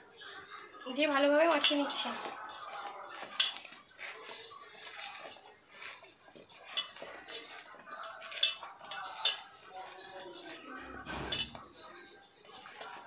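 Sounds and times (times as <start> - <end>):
dishes and utensils clinking: 0.0 - 13.0.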